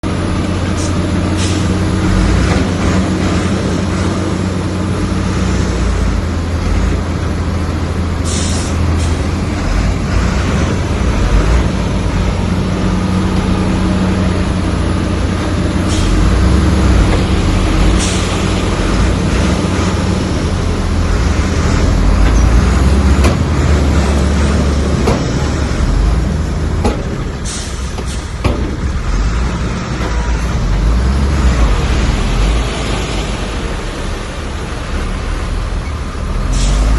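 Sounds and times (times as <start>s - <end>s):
heavy diesel engine running: 0.0s - 36.9s.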